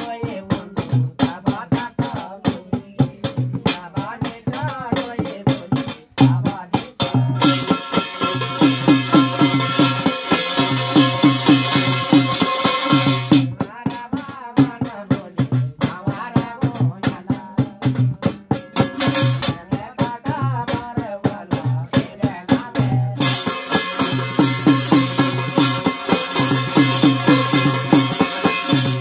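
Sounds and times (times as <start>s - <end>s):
percussion beats: 0.0s - 29.0s
person singing: 0.0s - 29.0s.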